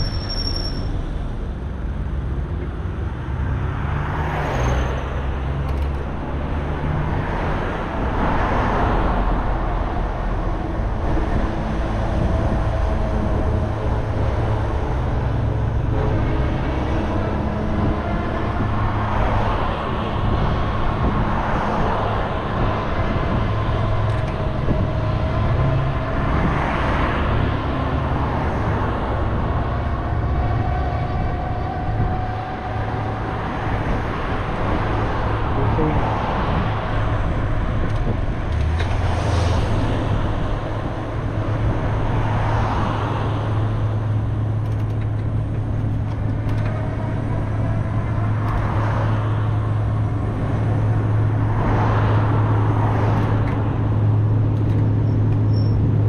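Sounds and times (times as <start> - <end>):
steady low traffic rumble: 0.0 - 56.0
vehicles passing close by: 0.0 - 56.0.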